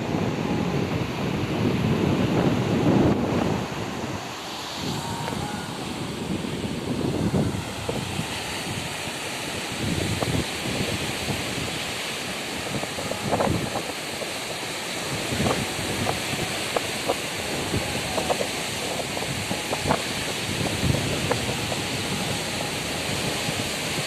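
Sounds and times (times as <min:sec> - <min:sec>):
sea surf washing on beach: 0:00.0 - 0:24.0
wind buffeting microphone: 0:00.0 - 0:24.0.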